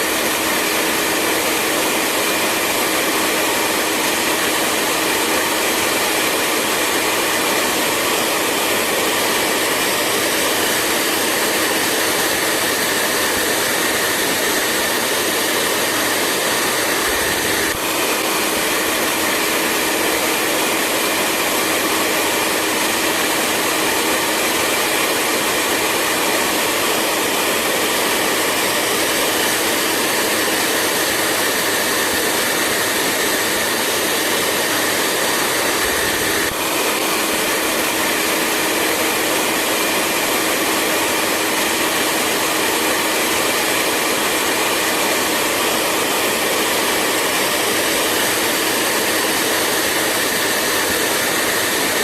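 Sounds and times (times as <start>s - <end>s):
hair dryer running: 0.0s - 52.0s.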